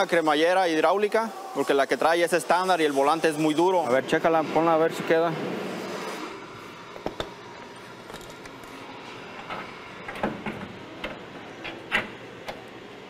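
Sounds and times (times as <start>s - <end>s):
workshop background noise: 0.0s - 13.0s.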